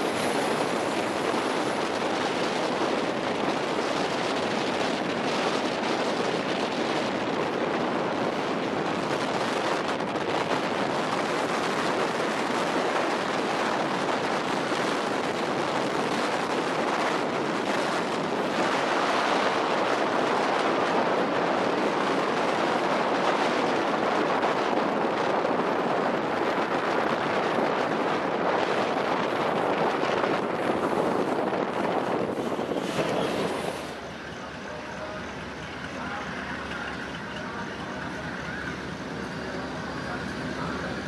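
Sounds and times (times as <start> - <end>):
freight train rolling past: 0.0 - 41.0.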